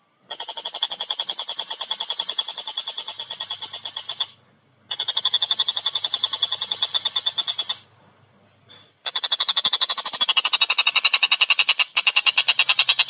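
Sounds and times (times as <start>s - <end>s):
kingfisher cackling call: 0.3s - 7.9s, 9.0s - 13.0s.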